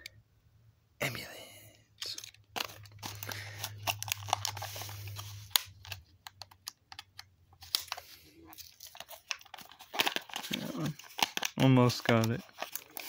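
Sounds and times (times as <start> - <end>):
plastic and card crinkling: 2.0 - 13.0.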